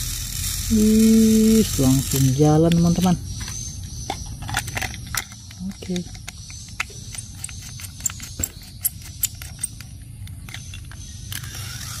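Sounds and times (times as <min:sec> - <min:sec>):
toy train motor whirring: 0:00.0 - 0:12.0.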